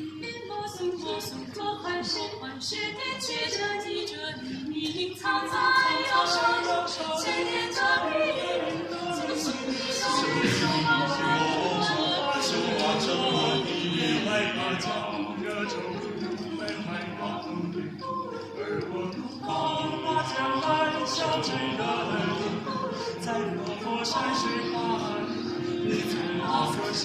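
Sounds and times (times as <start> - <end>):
a cappella choir singing: 0.0 - 27.0.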